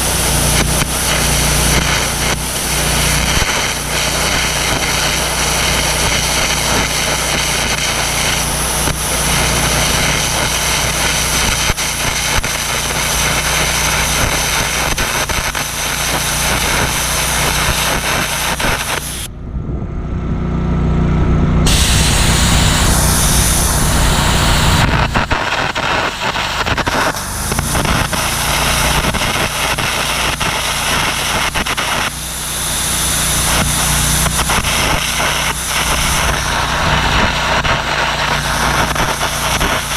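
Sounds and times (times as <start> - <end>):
arc gouging hiss and crackle: 0.0 - 19.3, 21.7 - 39.9
engine running: 0.0 - 39.9.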